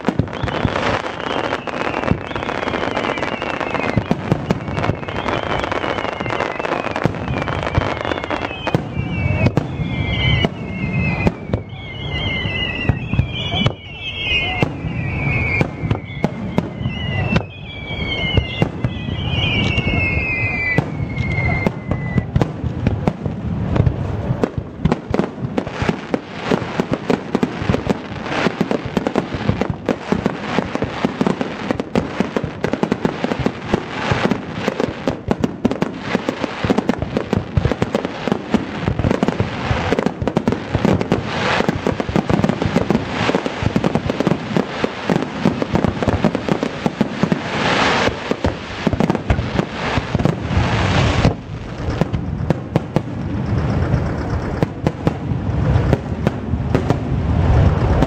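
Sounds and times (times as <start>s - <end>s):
firework shell bursts and crackling: 0.0s - 58.0s
firework whistles: 0.0s - 58.0s.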